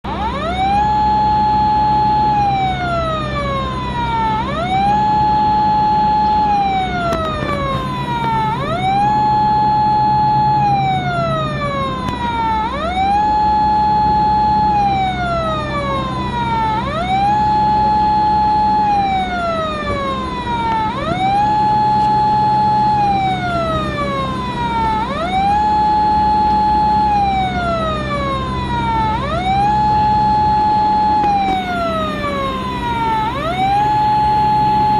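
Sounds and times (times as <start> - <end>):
police siren wailing: 0.0 - 34.9.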